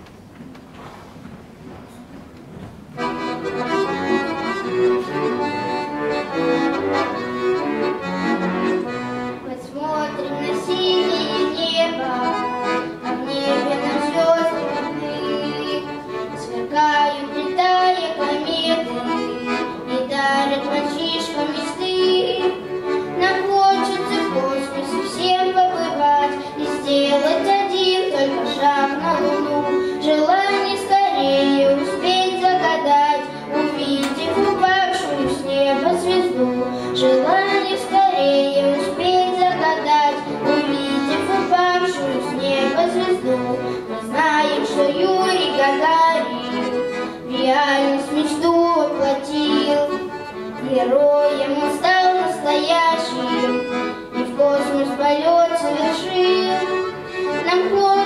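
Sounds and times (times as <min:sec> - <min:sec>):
accordion playing: 0:02.8 - 0:58.0
boy singing: 0:09.4 - 0:58.0.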